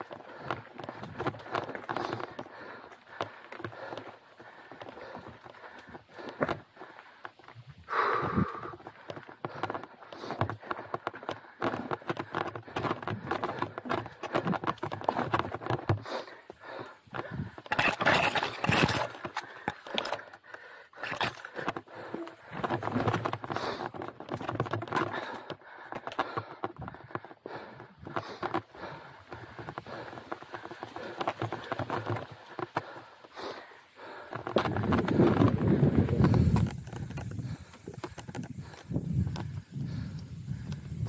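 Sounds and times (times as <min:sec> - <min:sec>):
bike rattling and knocking: 0:00.0 - 0:41.0
tyres on dirt and rock: 0:00.0 - 0:41.0.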